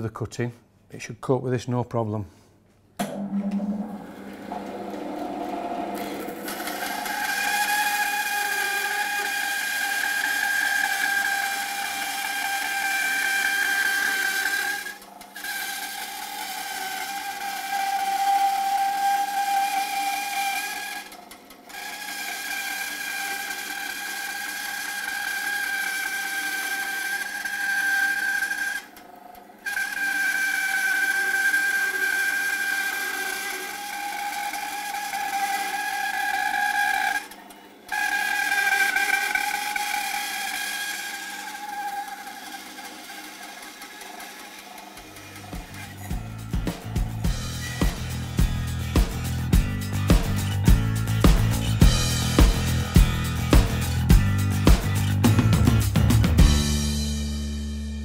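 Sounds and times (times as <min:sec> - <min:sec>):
bandsaw cutting wood: 0:03.0 - 0:57.6.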